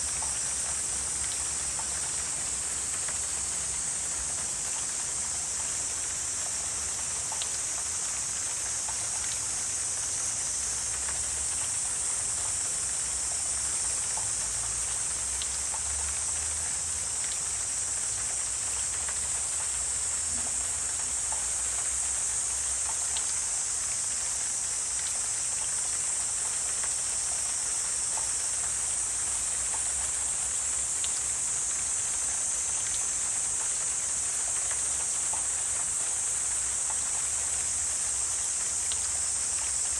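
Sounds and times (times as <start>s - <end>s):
faint ticks and chirps: 0.0s - 39.9s
insect chorus drone: 0.0s - 39.9s.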